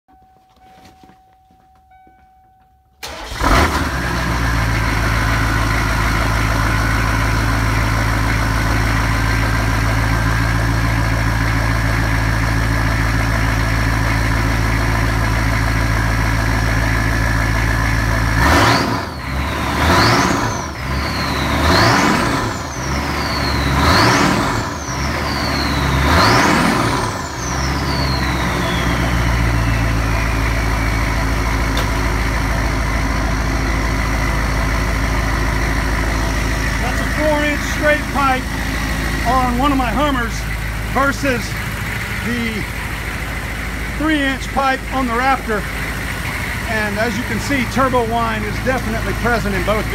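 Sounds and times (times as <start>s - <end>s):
diesel engine starting and idling: 3.0s - 49.9s
engine revving: 3.0s - 49.9s
turbo whine: 5.1s - 49.9s.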